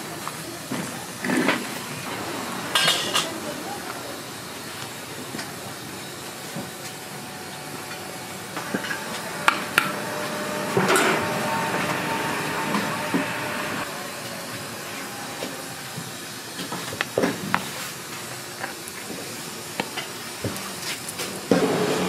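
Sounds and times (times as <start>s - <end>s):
pot boiling with hiss and bubbling: 0.0s - 22.0s.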